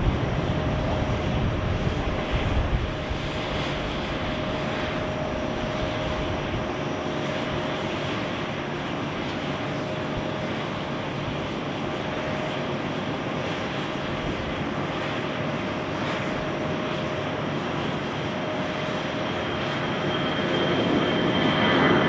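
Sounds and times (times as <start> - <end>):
constant humming tone: 0.0 - 22.0
jet engines roaring: 0.0 - 22.0.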